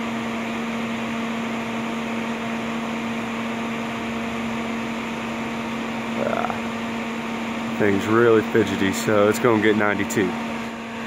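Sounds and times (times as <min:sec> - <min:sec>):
cooling fan humming: 0:00.0 - 0:11.0.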